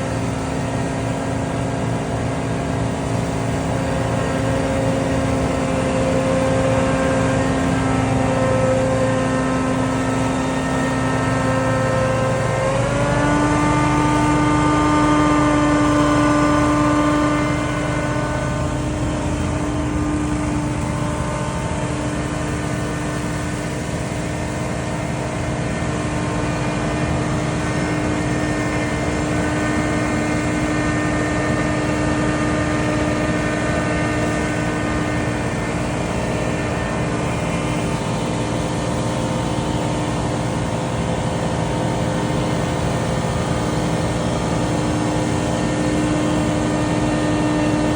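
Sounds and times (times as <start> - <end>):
debris blower engine drone: 0.0 - 47.9
fan whine: 0.0 - 47.9.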